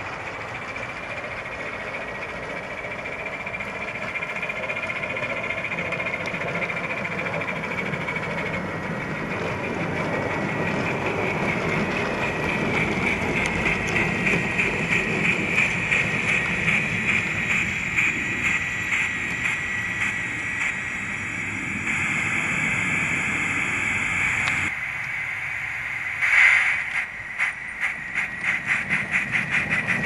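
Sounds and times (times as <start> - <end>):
model steam locomotive chuffs: 0.0 - 30.0
model train running noise: 0.0 - 30.0.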